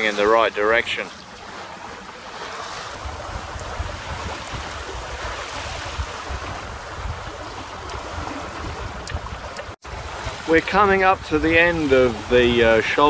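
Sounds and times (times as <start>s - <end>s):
water splashing along hull: 0.0s - 13.0s
wind buffeting microphone: 2.4s - 13.0s.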